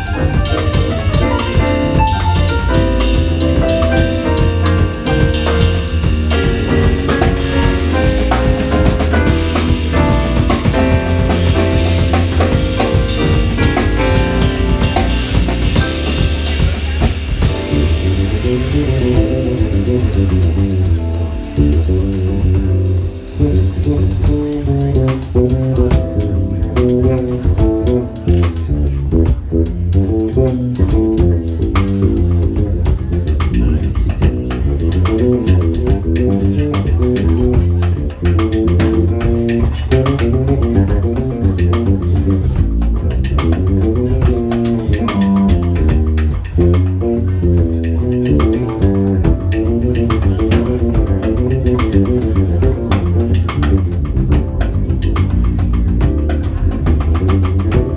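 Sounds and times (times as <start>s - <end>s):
bass playing quick notes: 0.0s - 57.9s
drum kit: 0.0s - 57.9s.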